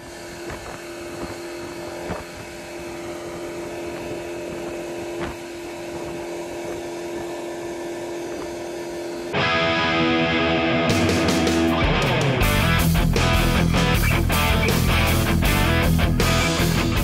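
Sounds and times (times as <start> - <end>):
outboard motor droning: 0.0 - 17.0.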